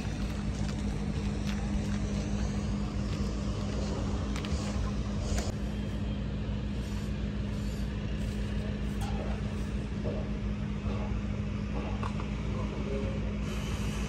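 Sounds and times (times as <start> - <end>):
motor drone: 0.0 - 12.0, 12.9 - 14.0.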